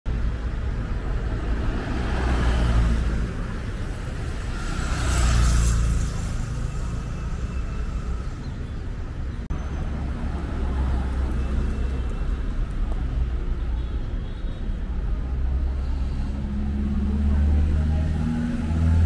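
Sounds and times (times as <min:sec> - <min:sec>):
vehicles passing: 0:00.1 - 0:19.0.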